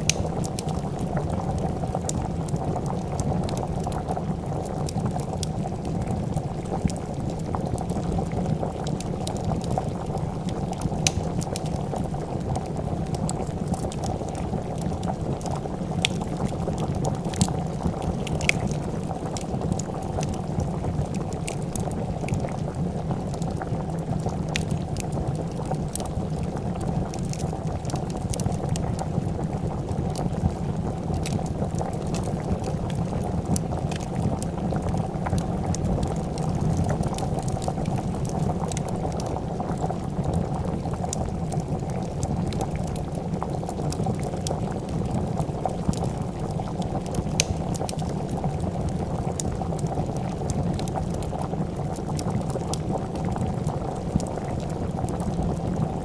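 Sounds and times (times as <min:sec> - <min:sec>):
soup boiling and bubbling: 0:00.0 - 0:56.0
wood fire crackling: 0:00.0 - 0:56.0.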